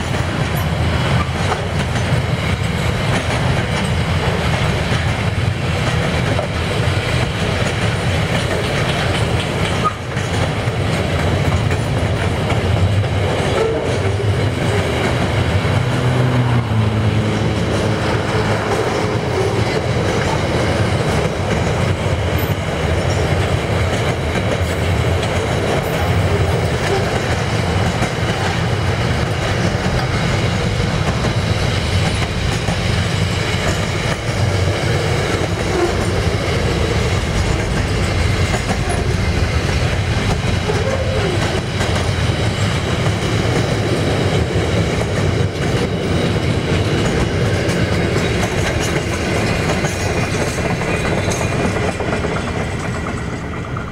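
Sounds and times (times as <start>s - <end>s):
train wheels rolling on rails: 0.0s - 53.9s.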